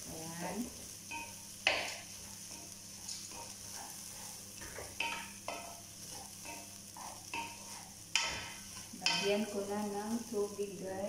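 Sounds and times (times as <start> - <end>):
rice sizzling in a pot: 0.0 - 11.0
wooden spoon scraping a pot: 0.8 - 10.3.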